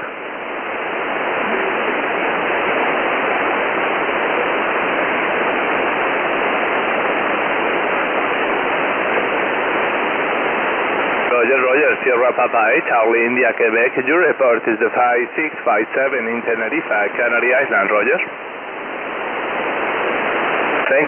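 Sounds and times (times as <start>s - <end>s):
shortwave radio static hiss: 0.0s - 21.0s.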